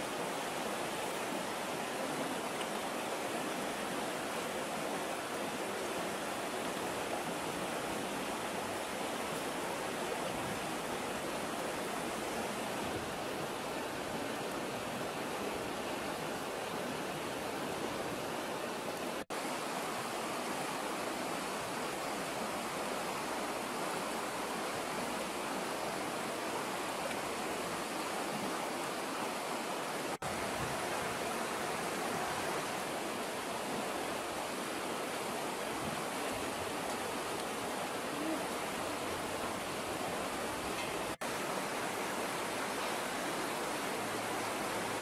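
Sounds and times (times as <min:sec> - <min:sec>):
rushing rocky stream: 0:00.0 - 0:45.0.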